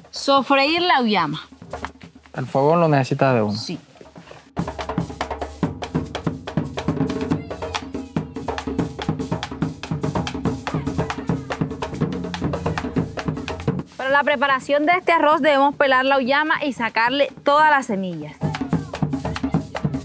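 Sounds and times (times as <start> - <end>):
music with fast percussive beat: 0.0 - 3.7, 4.6 - 20.0.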